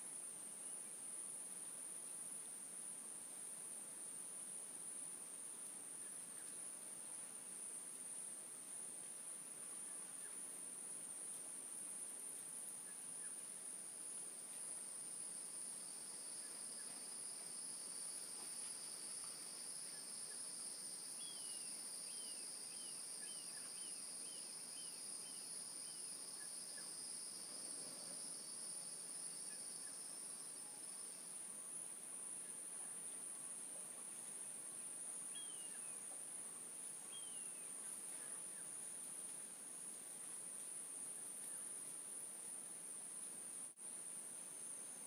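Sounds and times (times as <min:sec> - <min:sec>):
lower insect trill: 0:00.0 - 0:45.0.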